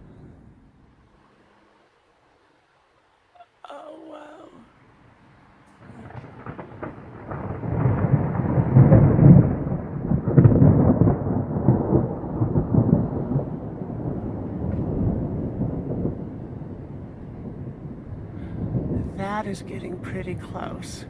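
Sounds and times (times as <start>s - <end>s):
thunder rumbling: 0.0s - 1.3s, 4.7s - 21.0s.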